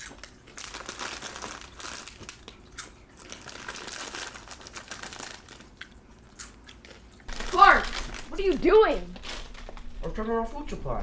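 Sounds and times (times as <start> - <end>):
snack wrappers crinkling: 0.0 - 9.9.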